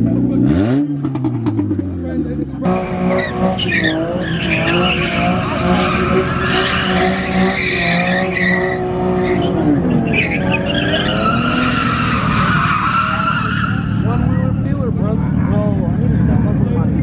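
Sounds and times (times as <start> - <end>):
car tyres screeching: 0.0 - 17.0
high-revving engine: 0.0 - 17.0.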